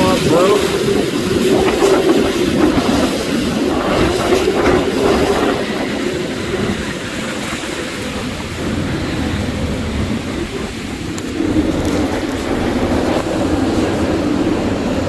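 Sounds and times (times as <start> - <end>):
strong wind howling: 0.0 - 15.0.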